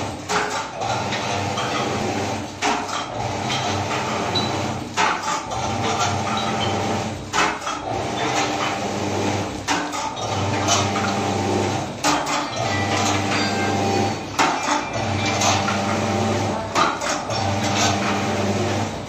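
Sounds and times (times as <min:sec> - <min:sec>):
machine motor hum: 0:00.0 - 0:19.0.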